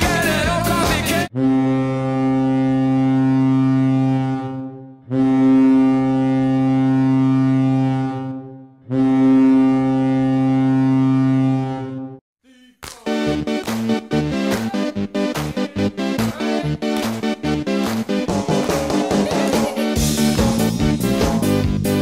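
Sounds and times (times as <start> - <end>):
deep goal horn blasts: 1.3 - 12.2, 13.1 - 22.0.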